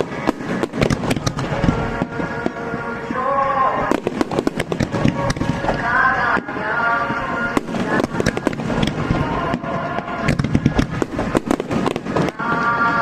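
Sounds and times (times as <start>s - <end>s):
fireworks bangs and crackling: 0.0s - 13.0s
music playing: 0.0s - 13.0s.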